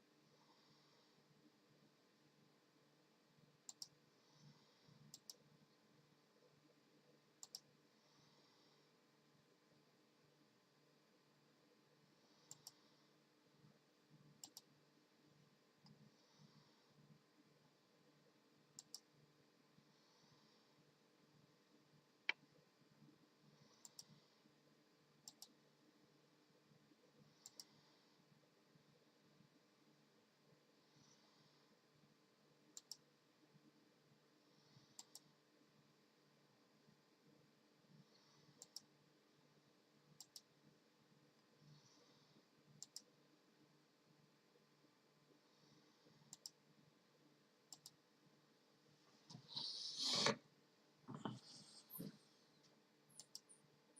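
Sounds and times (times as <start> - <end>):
quiet background hum: 0.0 - 53.9.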